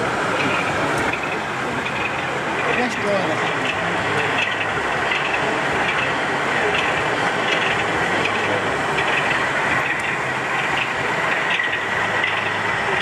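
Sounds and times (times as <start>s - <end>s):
busy exhibition hall din: 0.0s - 13.0s.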